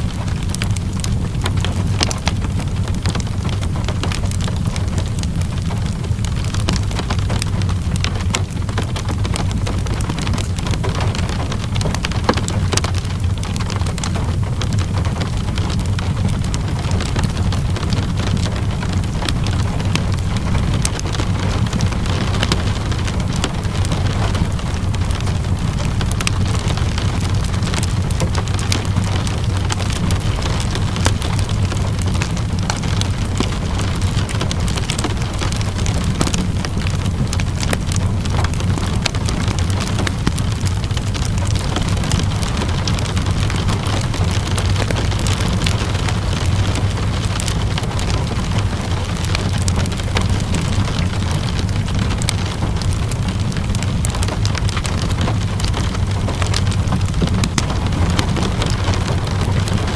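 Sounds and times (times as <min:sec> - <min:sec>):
steady rainfall: 0:00.0 - 0:59.9
wood fire crackling: 0:00.0 - 0:59.9.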